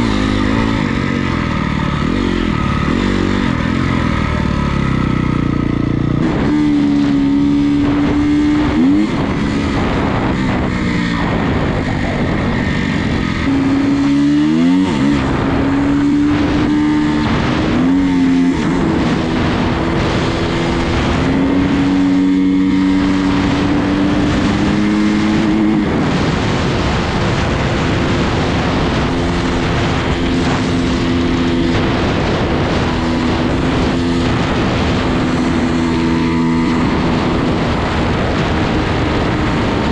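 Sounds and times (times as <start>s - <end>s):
motorcycle engine running hard: 0.0s - 39.9s
rushing wind and tyre noise: 0.0s - 39.9s.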